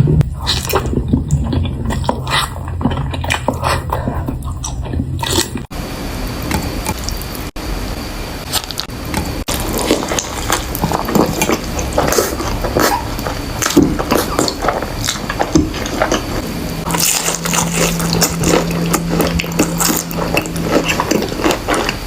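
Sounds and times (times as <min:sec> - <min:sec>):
wet chewing and smacking: 0:00.2 - 0:05.7, 0:08.5 - 0:22.0.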